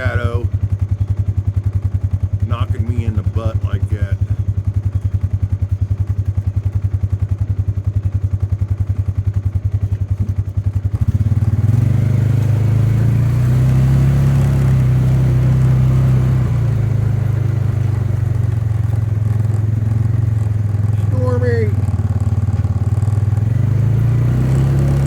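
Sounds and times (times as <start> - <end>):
small engine idling and revving: 0.0 - 25.0.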